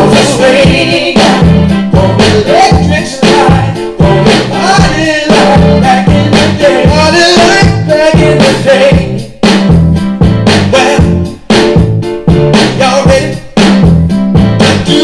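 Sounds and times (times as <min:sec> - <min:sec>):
song with singing over a beat: 0:00.0 - 0:15.0.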